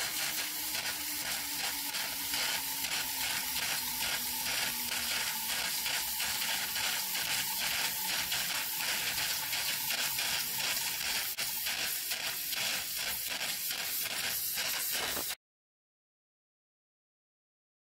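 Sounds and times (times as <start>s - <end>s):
toy steam turbine hissing: 0.0s - 15.4s.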